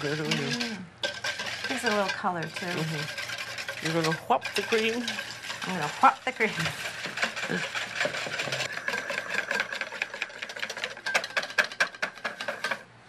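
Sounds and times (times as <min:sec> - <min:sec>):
whisk clattering in metal bowl: 0:00.0 - 0:12.9.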